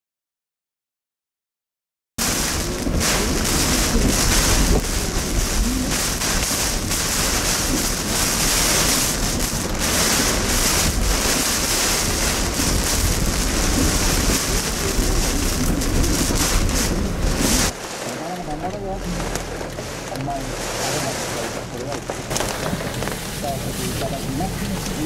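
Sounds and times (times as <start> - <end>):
rain: 2.2 - 25.0
strong wind buffeting microphone: 2.2 - 25.0.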